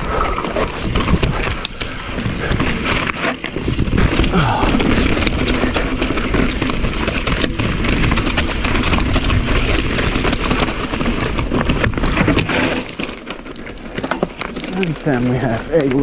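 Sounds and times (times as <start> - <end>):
bike knocking and rattling: 0.0 - 16.0
tyres crunching on gravel: 0.0 - 16.0
wind rumbling on microphone: 0.0 - 16.0.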